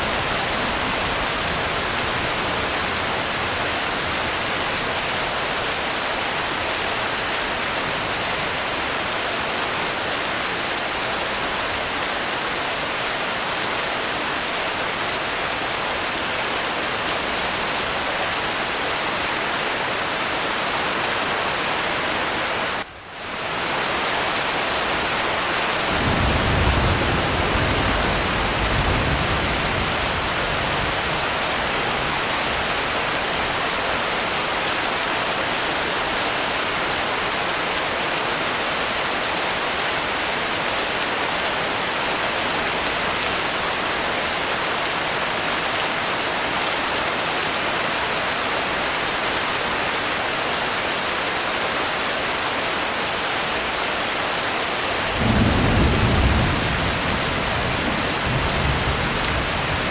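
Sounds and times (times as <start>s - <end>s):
dense rainfall hiss: 0.0s - 59.9s.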